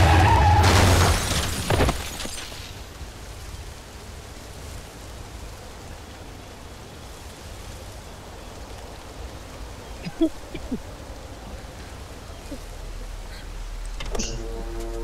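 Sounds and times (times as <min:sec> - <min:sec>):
low rumble and hiss of wind: 0:00.0 - 0:15.0.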